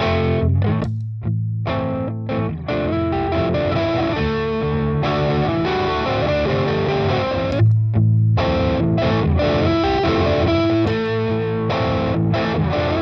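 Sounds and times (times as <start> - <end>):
overdriven electric guitar riff: 0.0 - 13.0.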